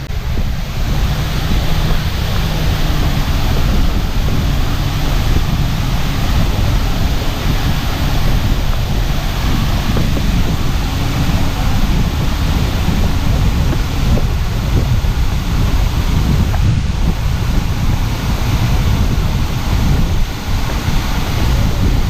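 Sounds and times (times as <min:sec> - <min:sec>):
rushing water: 0:00.0 - 0:22.0
wind buffeting microphone: 0:00.0 - 0:22.0.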